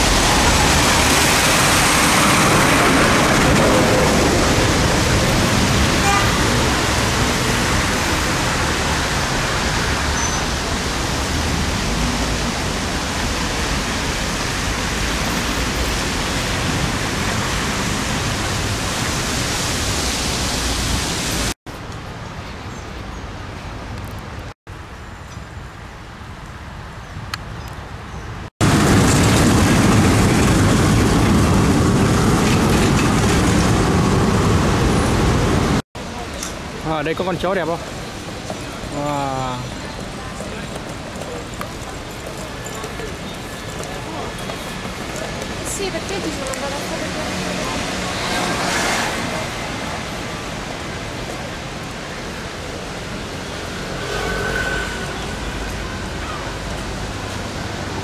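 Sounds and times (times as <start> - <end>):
tram rumbling past: 0.0 - 19.5, 28.6 - 58.0
wet city street hiss: 0.0 - 58.0.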